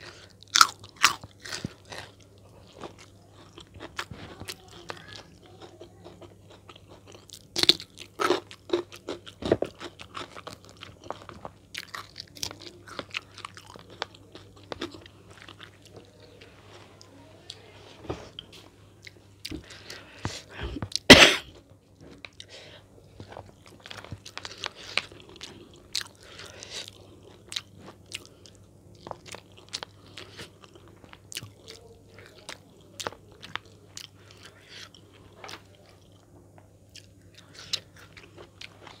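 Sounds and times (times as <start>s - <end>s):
person chewing crunchy food: 0.0s - 16.8s, 22.0s - 36.2s, 36.9s - 39.0s.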